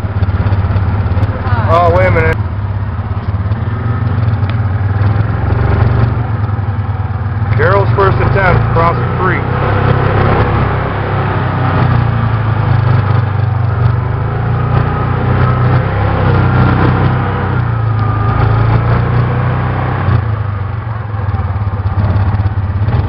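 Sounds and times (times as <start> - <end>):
atv engines running: 0.0 - 23.0.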